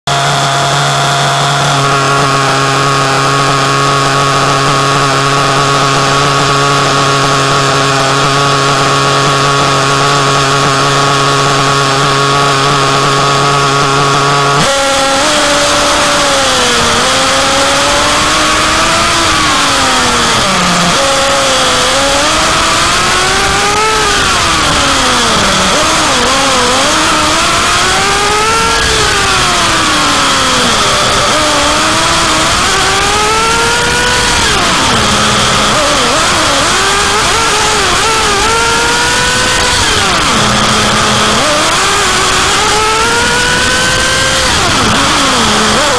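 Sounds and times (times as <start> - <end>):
small nitro engine running: 0.1 - 45.9.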